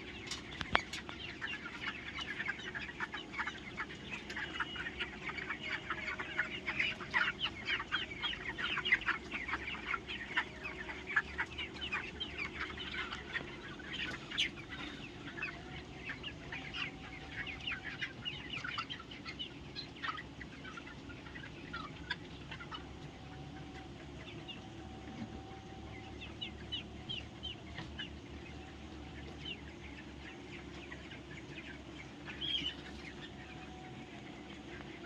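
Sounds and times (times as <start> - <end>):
chickens chirping: 0.0 - 35.0.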